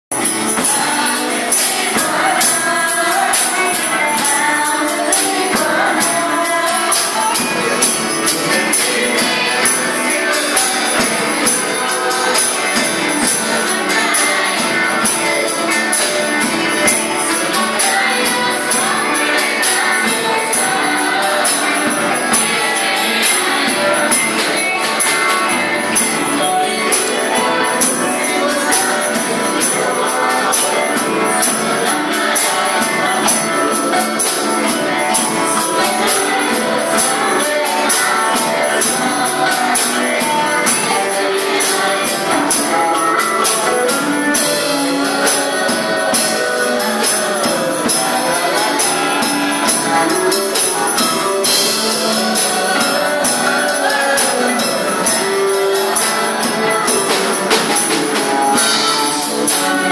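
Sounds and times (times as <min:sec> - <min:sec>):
acoustic guitar: 0:00.1 - 0:59.9
drum kit: 0:00.1 - 0:59.9
group singing praise song: 0:00.1 - 0:59.9
jingling beat: 0:00.1 - 0:59.9.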